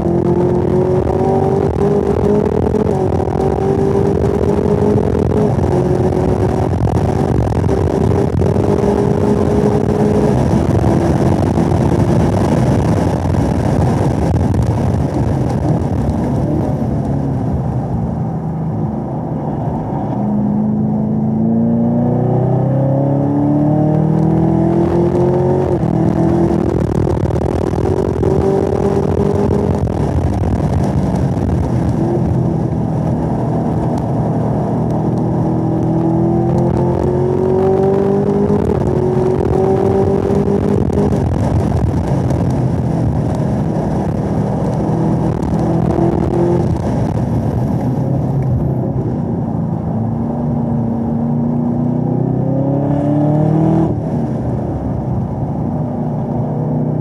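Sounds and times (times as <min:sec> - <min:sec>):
car engine revving at full throttle: 0:00.0 - 0:57.0.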